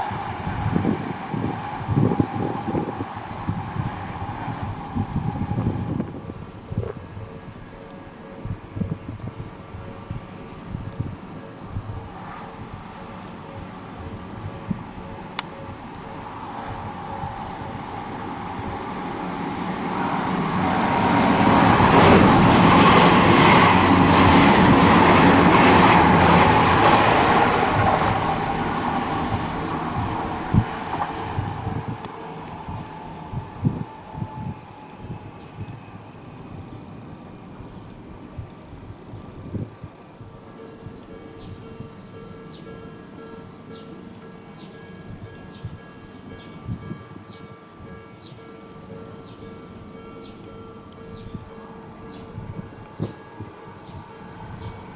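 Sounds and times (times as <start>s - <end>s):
electric train passing: 0.0s - 54.9s.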